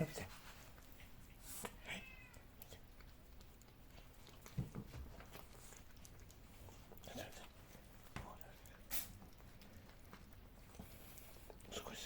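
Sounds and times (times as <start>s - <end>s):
cats eating clicks: 1.7s - 12.0s.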